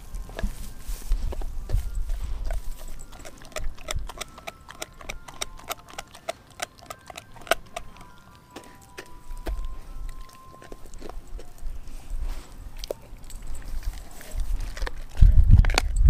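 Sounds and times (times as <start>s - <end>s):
dog gnawing frozen bone: 0.0s - 16.0s.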